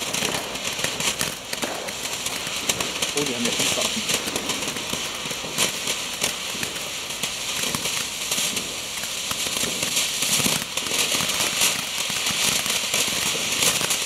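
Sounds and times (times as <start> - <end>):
firework crackles: 0.0 - 14.0
fountain firework hissing: 0.0 - 14.0.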